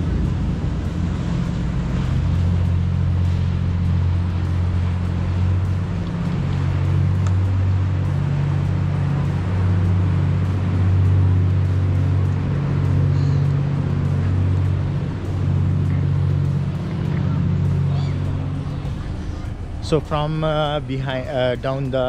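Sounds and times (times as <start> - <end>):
loud low rumble: 0.0 - 22.0.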